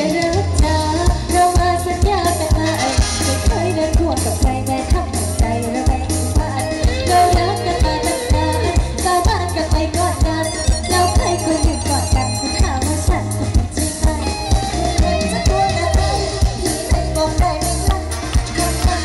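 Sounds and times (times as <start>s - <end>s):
amplified live band music: 0.0s - 19.0s
person singing: 0.0s - 19.0s.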